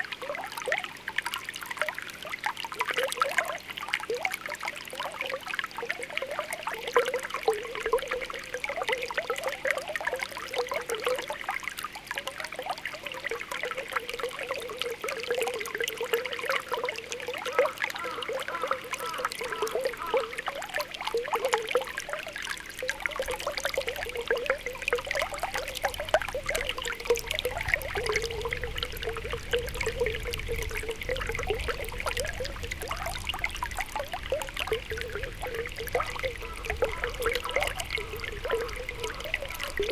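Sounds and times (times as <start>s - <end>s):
spring water bubbling: 0.0s - 39.9s
water trickling: 0.0s - 39.9s.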